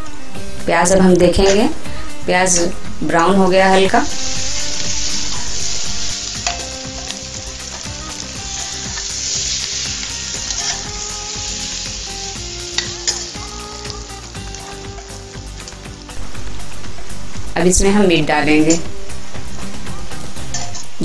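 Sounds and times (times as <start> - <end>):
onions sizzling in oil: 0.4 - 21.0.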